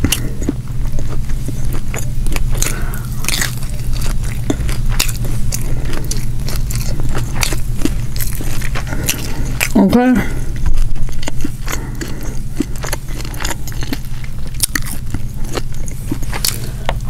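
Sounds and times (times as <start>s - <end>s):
close chewing with wet mouth clicks: 0.0s - 17.0s
low hum: 0.0s - 17.0s.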